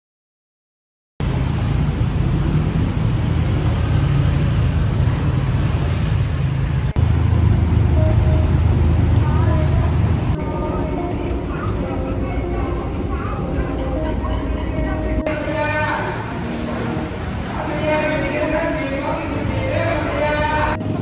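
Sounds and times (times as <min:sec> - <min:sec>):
vehicle traffic rumble: 0:01.2 - 0:21.0.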